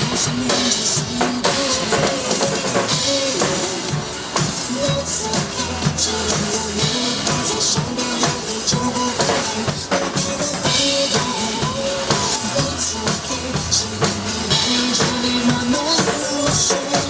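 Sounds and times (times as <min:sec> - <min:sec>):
drum kit playing a beat: 0:00.0 - 0:17.0
pop backing track: 0:00.0 - 0:17.0.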